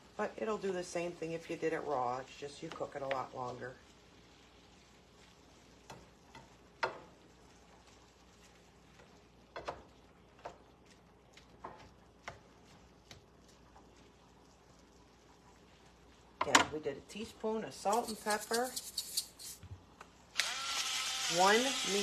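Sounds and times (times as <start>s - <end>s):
meat sizzling: 0.0s - 19.6s, 20.2s - 22.0s.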